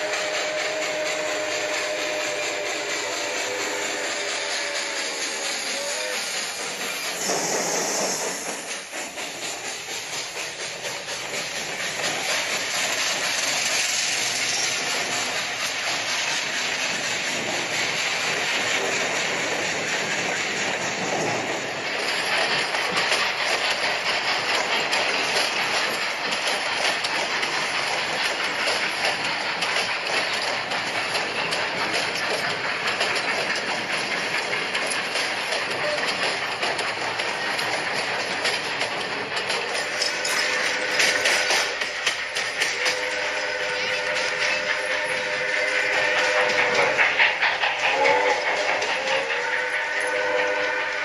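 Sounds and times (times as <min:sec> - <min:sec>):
model train rolling hiss: 0:00.0 - 0:51.0
wheels clicking over rail joints: 0:00.0 - 0:51.0.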